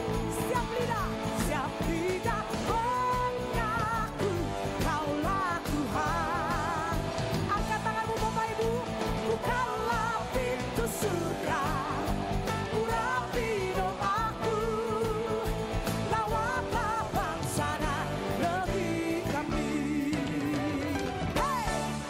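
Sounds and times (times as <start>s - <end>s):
band playing bass guitar and drums: 0.0s - 22.0s.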